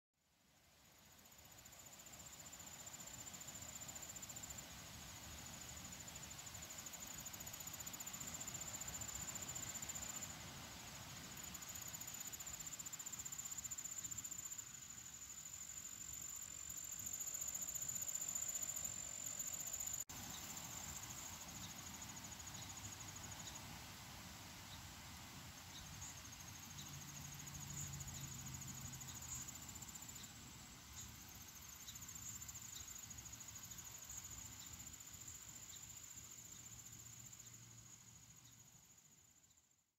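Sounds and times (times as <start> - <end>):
insects trilling: 0.9 - 39.6.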